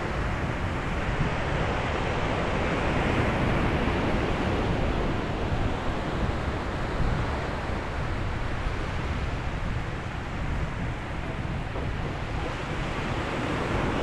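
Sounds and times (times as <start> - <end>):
waves washing onto shore: 0.0 - 14.0.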